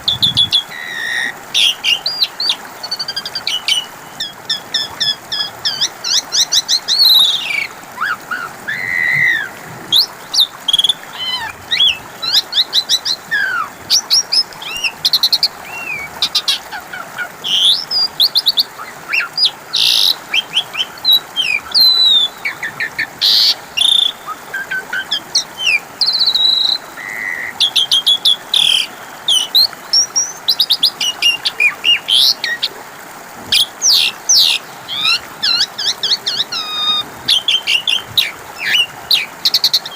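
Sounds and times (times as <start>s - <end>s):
starling singing: 0.0s - 32.6s, 33.5s - 39.9s.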